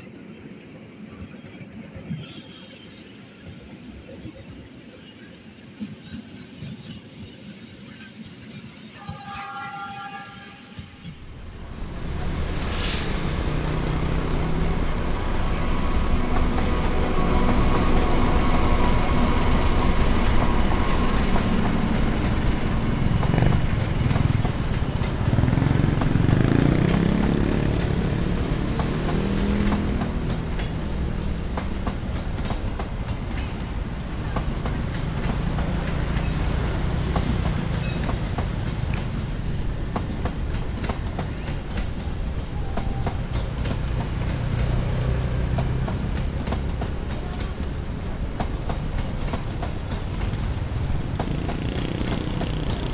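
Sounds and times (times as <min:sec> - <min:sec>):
diesel locomotive engine drone: 0:00.0 - 0:52.9
wheels rumbling on rails: 0:00.0 - 0:52.9.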